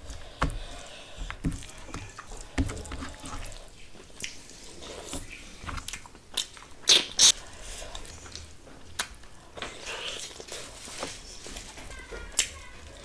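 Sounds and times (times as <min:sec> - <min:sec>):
chewing and wet mouth noises: 0:00.1 - 0:10.7.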